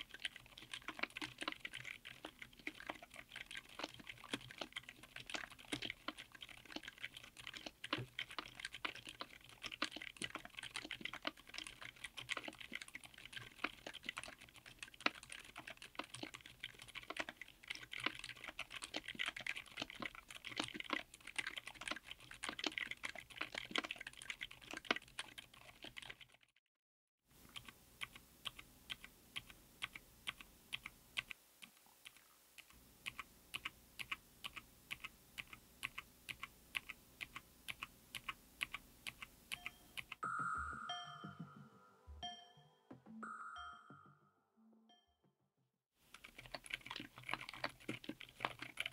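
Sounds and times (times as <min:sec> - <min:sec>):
typing on a mechanical keyboard: 0:00.0 - 0:26.4, 0:27.5 - 0:31.4, 0:32.0 - 0:40.2, 0:46.1 - 0:48.9.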